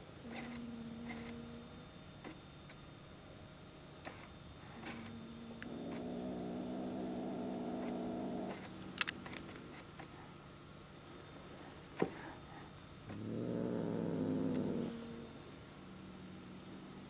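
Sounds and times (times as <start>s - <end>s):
cat purring: 0.1s - 2.1s, 4.1s - 10.3s, 11.4s - 17.0s.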